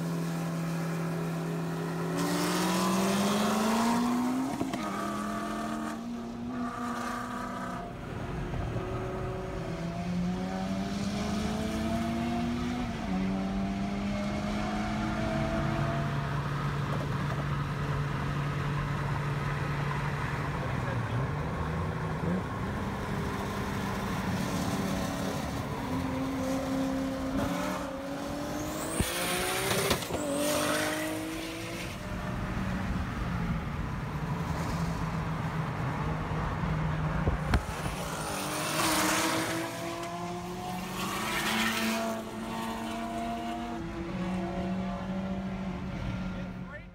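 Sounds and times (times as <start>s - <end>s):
racing car engines revving: 0.0s - 46.9s.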